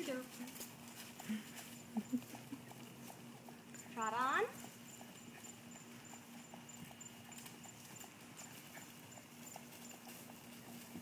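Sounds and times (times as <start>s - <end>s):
horse hoofbeats on dirt: 0.0s - 11.0s.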